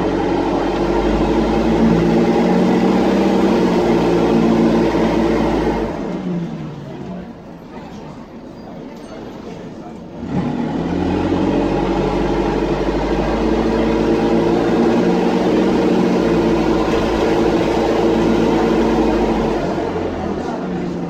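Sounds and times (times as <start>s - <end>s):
bus engine droning: 0.0s - 21.0s.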